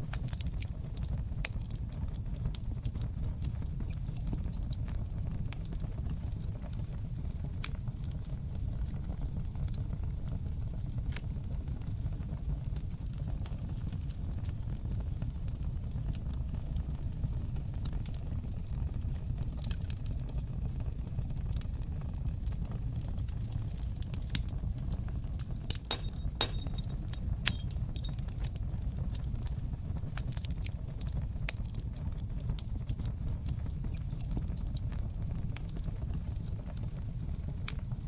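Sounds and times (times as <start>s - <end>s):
low rumble of flames: 0.0s - 38.0s
wood crackling and popping: 0.0s - 38.0s.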